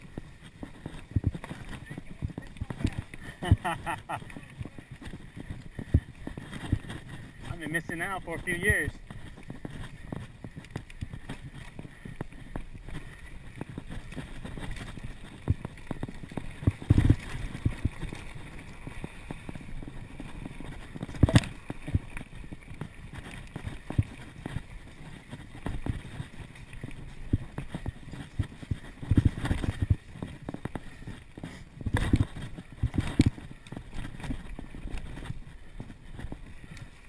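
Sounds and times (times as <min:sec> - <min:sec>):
bike rattling over bumps: 0:00.0 - 0:37.0
bike tyres rumbling on dirt: 0:00.0 - 0:37.0.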